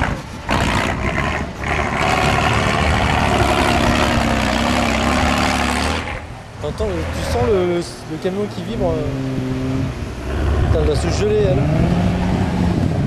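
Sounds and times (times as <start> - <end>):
truck engine pulling hard: 0.0 - 13.0.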